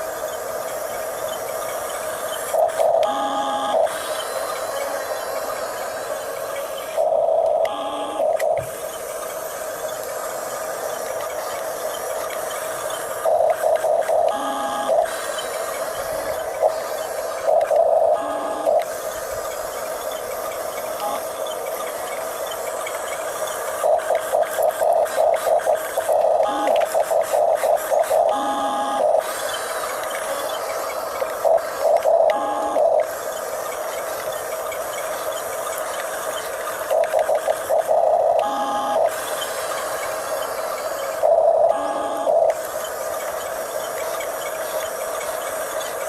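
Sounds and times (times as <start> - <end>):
toy bulldozer motor whining: 0.0 - 46.0.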